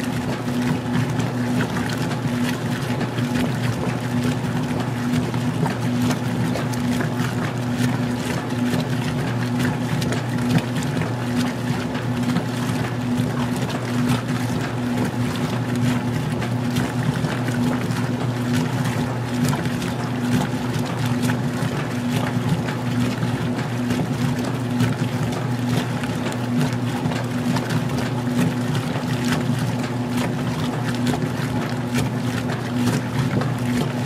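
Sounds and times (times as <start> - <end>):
washer motor hum pulsing: 0.0 - 34.0
water sloshing in tub: 0.0 - 34.0.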